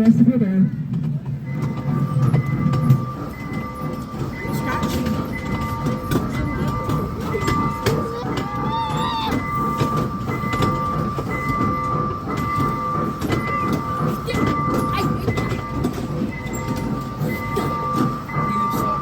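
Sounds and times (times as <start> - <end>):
ride train low rumble: 0.0 - 19.0.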